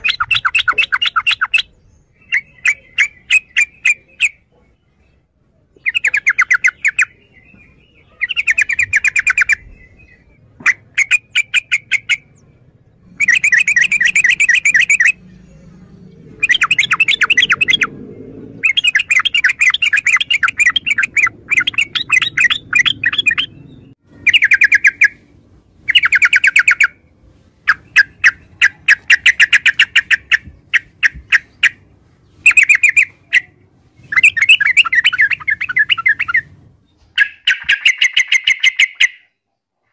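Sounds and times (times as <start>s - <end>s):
bird singing bubbling chatter: 0.0s - 27.0s, 27.7s - 39.4s.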